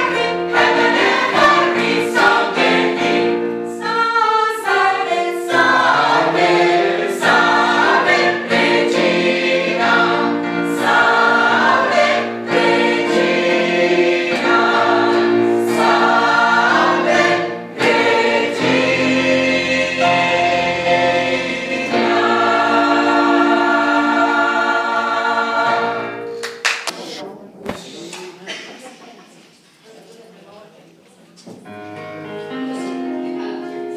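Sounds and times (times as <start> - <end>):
gospel choir singing: 0.0 - 27.2.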